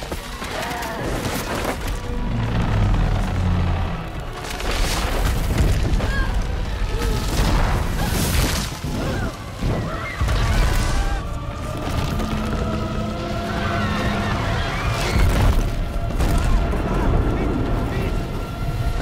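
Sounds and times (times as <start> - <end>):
orchestral music: 0.0 - 19.0.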